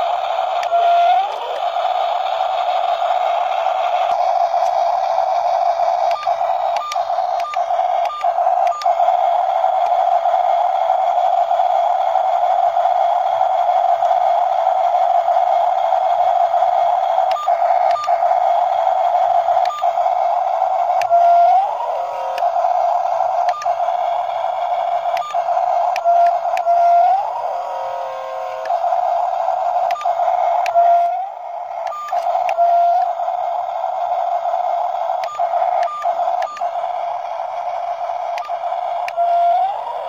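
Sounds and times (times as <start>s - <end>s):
motor clicks: 0.0s - 40.0s
toy electric motor whine: 0.0s - 40.0s.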